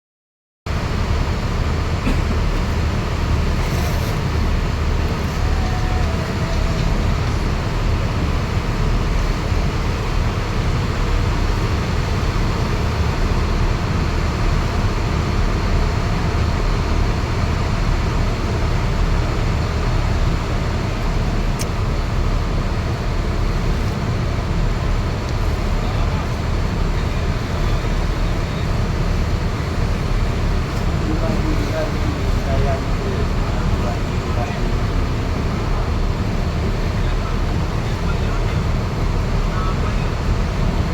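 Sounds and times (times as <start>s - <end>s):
ship engines rumbling: 0.7s - 40.9s.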